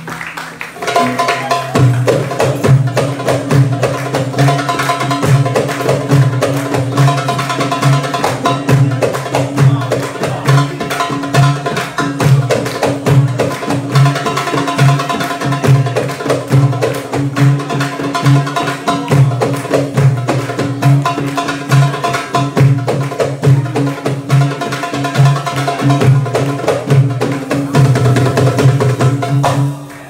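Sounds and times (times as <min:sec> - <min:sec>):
wood block clicking percussion: 0:00.7 - 0:29.7.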